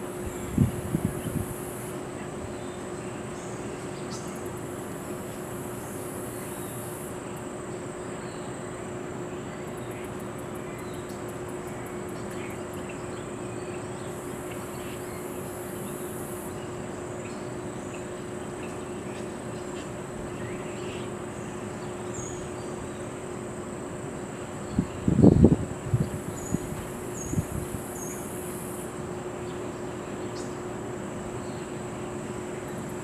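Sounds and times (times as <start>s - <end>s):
insects trilling: 0.0s - 33.0s
steady low hum: 0.0s - 33.0s.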